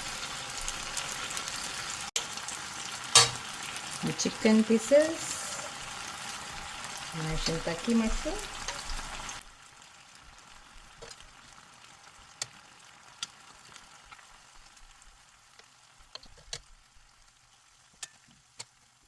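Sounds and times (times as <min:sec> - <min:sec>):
food sizzling on hotplate: 0:00.0 - 0:19.0.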